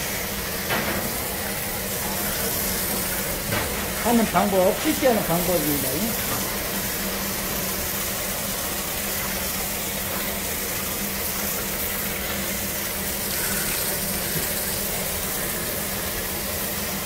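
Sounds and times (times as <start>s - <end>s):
water spraying from hose: 0.0s - 17.0s.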